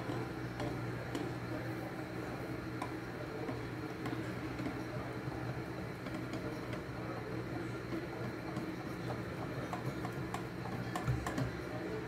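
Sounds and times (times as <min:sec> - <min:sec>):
whisk tapping glass bowl: 0:00.0 - 0:12.0.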